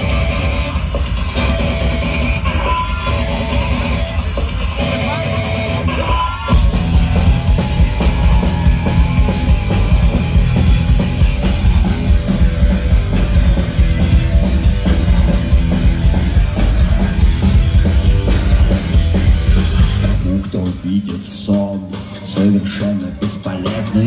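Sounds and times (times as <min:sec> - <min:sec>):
driving drum kit: 0:00.0 - 0:24.0
electric guitars: 0:00.0 - 0:24.0
heavy rock band: 0:00.0 - 0:24.0.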